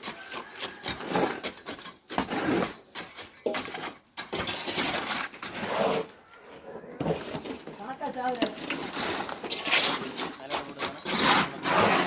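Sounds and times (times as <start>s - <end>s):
construction clattering and scraping: 0.0s - 12.0s.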